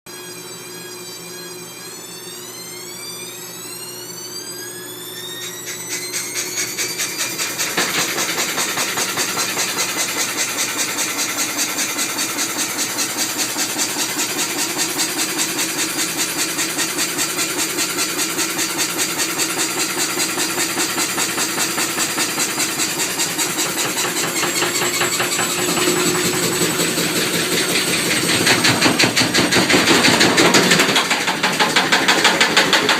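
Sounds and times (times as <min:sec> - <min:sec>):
washing machine spinning: 0:00.1 - 0:32.9.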